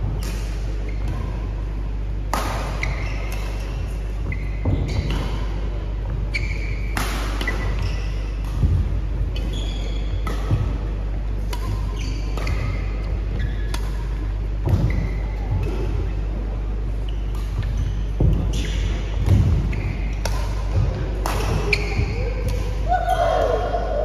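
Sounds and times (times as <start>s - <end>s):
steady low hum: 0.0s - 24.0s
rackets striking shuttlecock: 0.1s - 1.6s, 2.2s - 5.7s, 6.4s - 23.0s
shoes squeaking on court: 2.2s - 23.6s.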